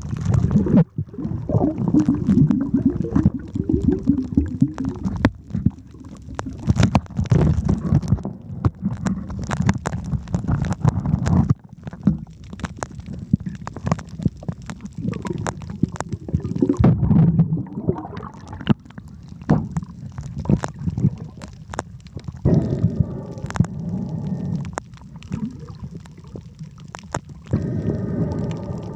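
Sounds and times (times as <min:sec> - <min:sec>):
underwater rumble of moving water: 0:00.0 - 0:28.9.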